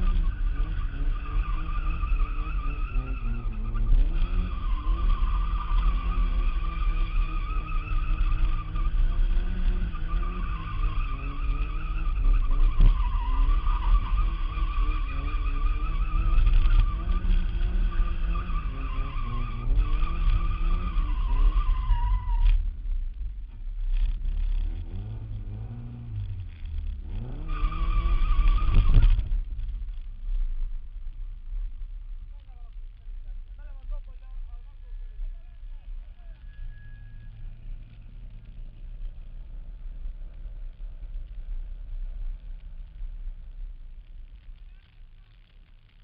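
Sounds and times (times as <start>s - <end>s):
car engine running loud: 0.0s - 46.0s.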